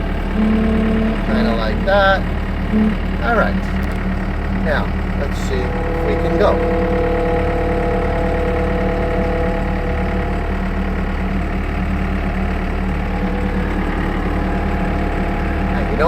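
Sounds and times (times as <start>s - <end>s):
loader engine running: 0.0s - 16.0s
steady whine: 0.0s - 16.0s.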